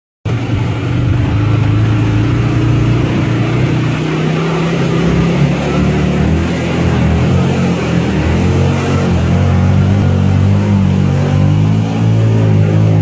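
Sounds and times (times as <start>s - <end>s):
utility vehicle engine running: 0.3s - 13.0s.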